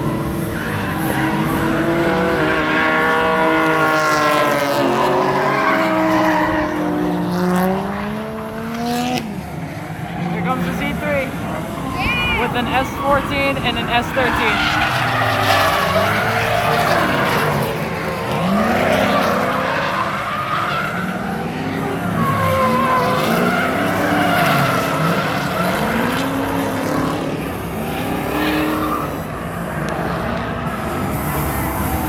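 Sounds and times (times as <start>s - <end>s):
tire squeal: 0.0s - 8.8s, 9.6s - 32.0s
car engines revving: 0.0s - 32.0s.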